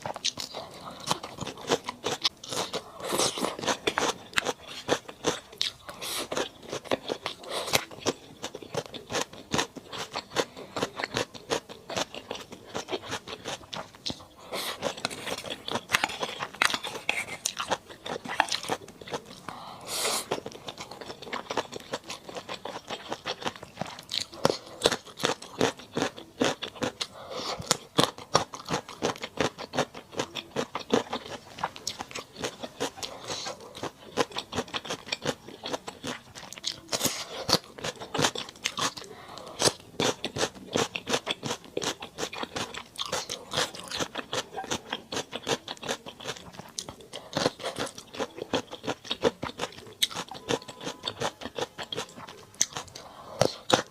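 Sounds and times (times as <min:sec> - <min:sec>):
person chewing and crunching: 0:00.0 - 0:53.9.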